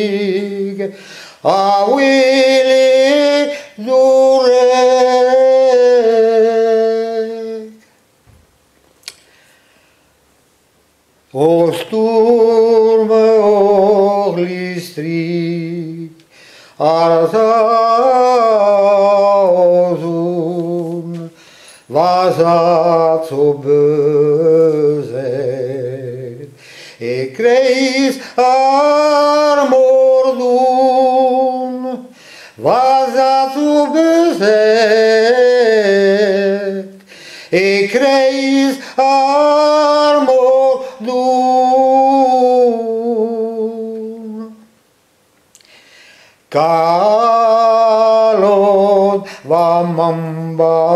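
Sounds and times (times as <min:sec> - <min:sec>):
man singing unaccompanied: 0:00.0 - 0:07.9, 0:11.3 - 0:44.8, 0:46.5 - 0:50.9.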